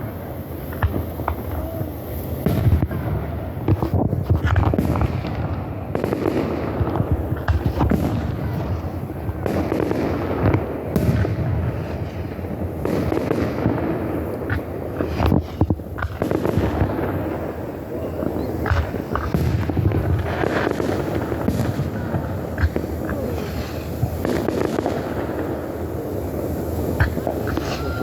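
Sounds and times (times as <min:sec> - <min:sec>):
fireworks booming and cracking: 0:00.0 - 0:28.0.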